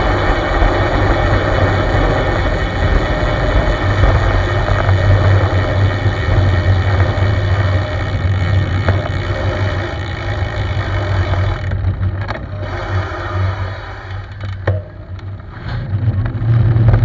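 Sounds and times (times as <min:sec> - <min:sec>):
bike tyres rolling on asphalt: 0:00.0 - 0:17.0
wind rumble on microphone: 0:00.0 - 0:17.0.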